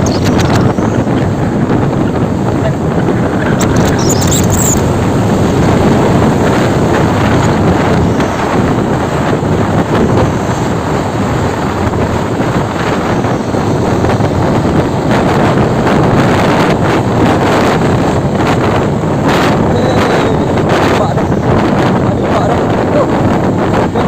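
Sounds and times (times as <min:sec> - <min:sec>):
truck and road rumble: 0:00.0 - 0:24.0
wind buffeting microphone: 0:00.0 - 0:24.0.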